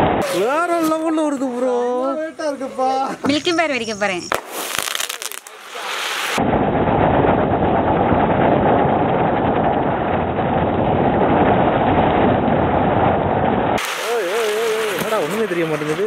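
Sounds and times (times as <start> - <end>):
ground fireworks muffled rumble: 0.0 - 16.0.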